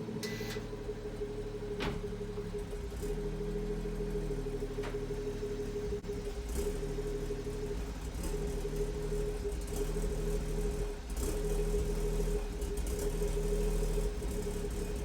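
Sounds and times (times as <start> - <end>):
car engine rough idle: 0.0 - 15.0.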